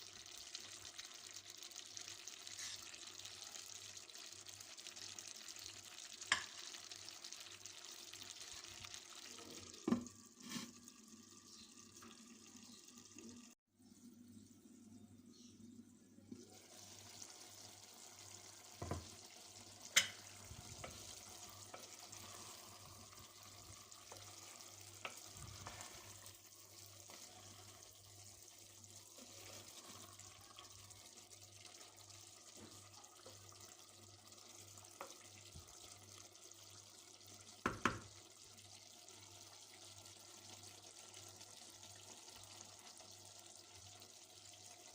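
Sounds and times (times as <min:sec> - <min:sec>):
faint cooking hiss: 0:00.0 - 0:44.9.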